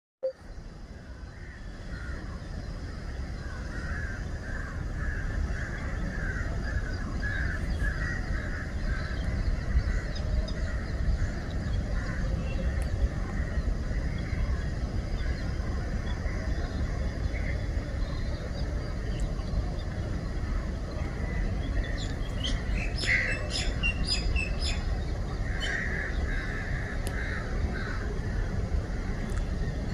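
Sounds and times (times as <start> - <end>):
steady low rumble: 0.2 - 29.9
waterbirds calling: 0.4 - 29.9.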